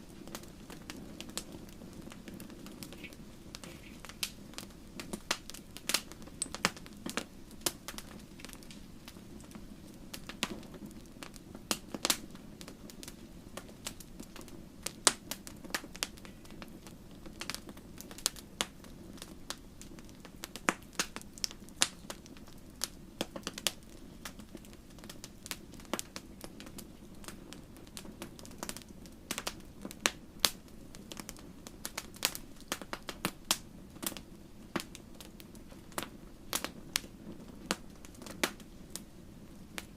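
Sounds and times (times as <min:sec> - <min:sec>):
low rush of flames: 0:00.0 - 0:39.9
wood fire crackling and popping: 0:00.0 - 0:39.9.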